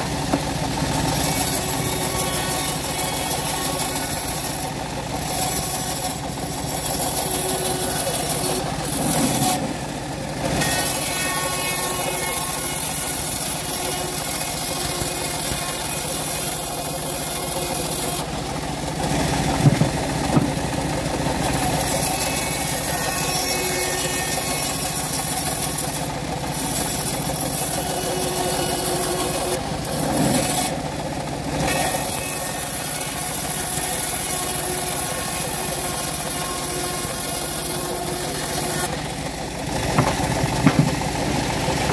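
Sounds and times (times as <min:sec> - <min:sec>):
bandsaw mill cutting wood: 0:00.0 - 0:41.9.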